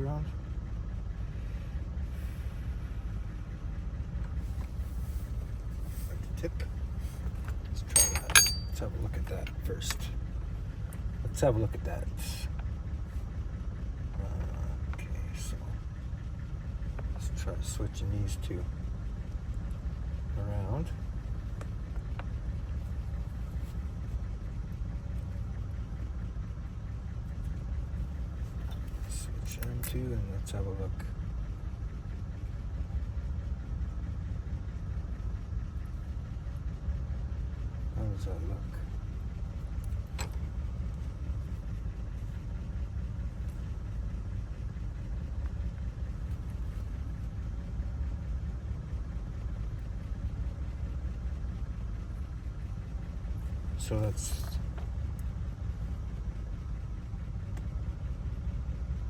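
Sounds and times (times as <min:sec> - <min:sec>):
low engine-like rumble: 0:00.0 - 0:59.0.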